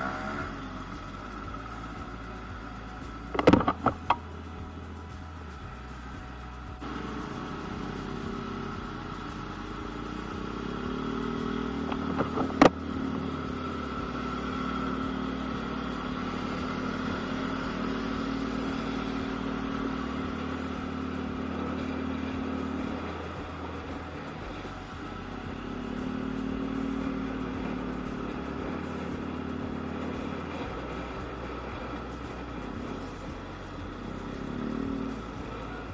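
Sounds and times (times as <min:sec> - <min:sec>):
scooter engine running: 0:00.0 - 0:35.9.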